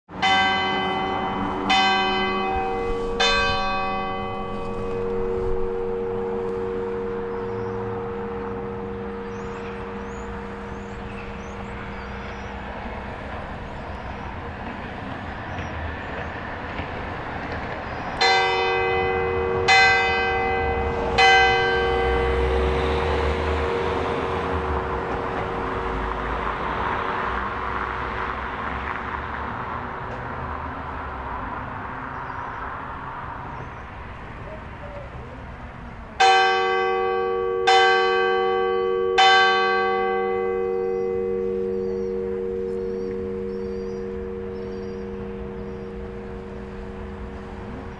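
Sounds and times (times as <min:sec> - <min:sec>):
church bell ringing: 0:00.1 - 0:28.6, 0:36.2 - 0:47.9.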